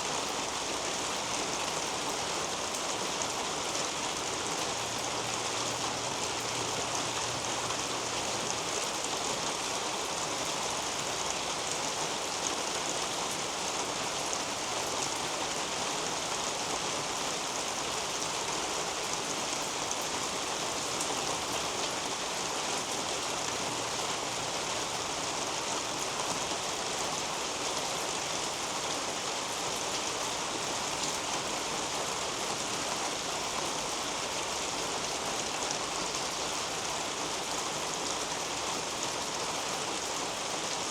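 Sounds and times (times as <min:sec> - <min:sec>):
rain on foliage: 0:00.0 - 0:40.9.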